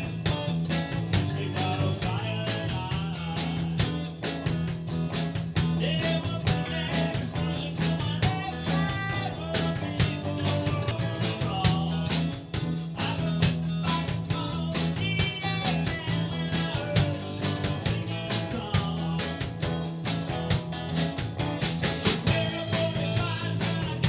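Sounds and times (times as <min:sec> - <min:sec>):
drum kit beat: 0:00.0 - 0:24.0
electric bass: 0:00.0 - 0:24.0
electric guitars: 0:00.0 - 0:24.0.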